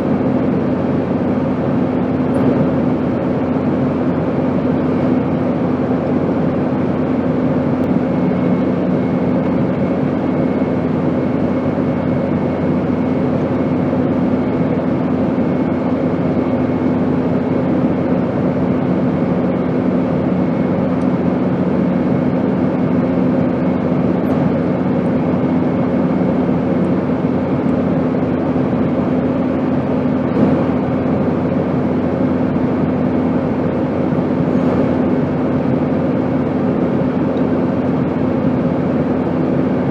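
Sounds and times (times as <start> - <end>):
airplane rushing noise: 0.0 - 39.9
constant low hum: 0.0 - 39.9.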